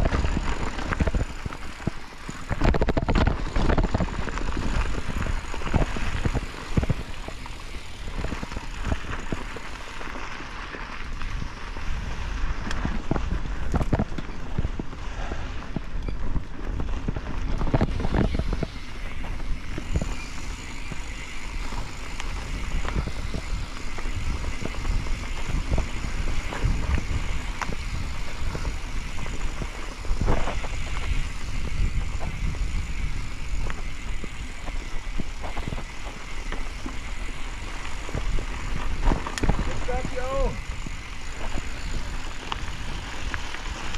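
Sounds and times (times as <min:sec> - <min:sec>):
wind on microphone: 0:00.0 - 0:09.6, 0:11.1 - 0:43.9
bike knocks and rattles: 0:00.0 - 0:10.3, 0:12.6 - 0:15.0, 0:15.6 - 0:43.9
bike tyres rumbling on dirt: 0:00.0 - 0:43.9.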